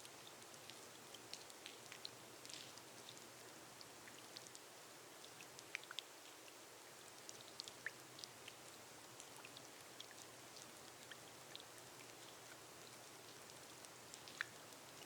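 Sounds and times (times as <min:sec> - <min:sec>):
gentle rain on glass roof: 0:00.0 - 0:15.0.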